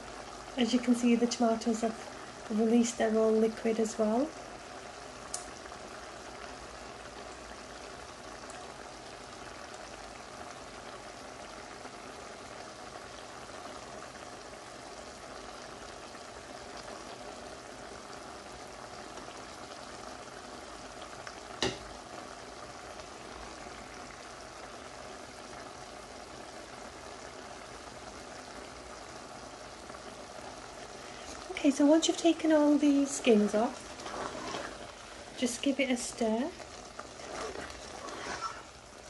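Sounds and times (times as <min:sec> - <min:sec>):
meat and tomatoes sizzling: 0:00.0 - 0:39.0.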